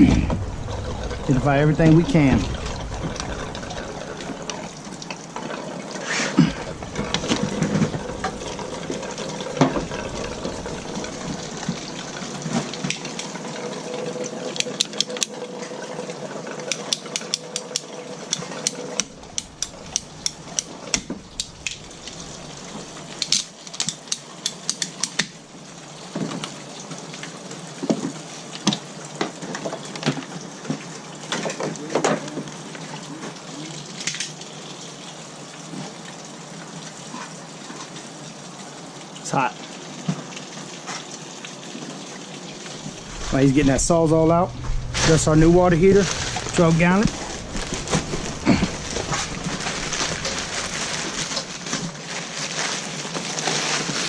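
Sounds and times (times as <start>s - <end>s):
water running from pipes: 0.0s - 54.0s.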